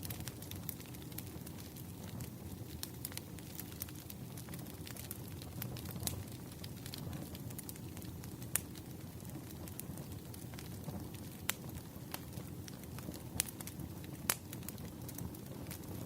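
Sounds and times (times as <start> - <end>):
firewood popping and snapping: 0.0 - 16.0
rumble of flames: 0.0 - 16.0.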